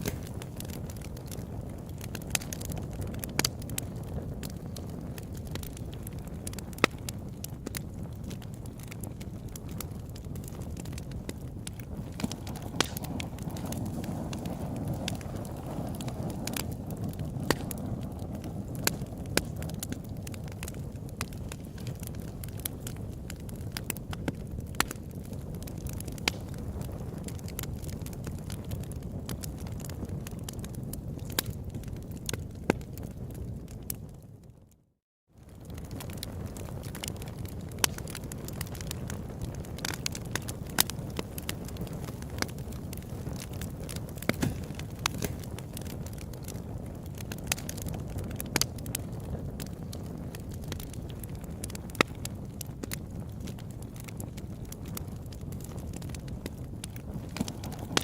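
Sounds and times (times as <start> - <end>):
campfire crackling and popping: 0.0 - 34.8, 35.4 - 58.0.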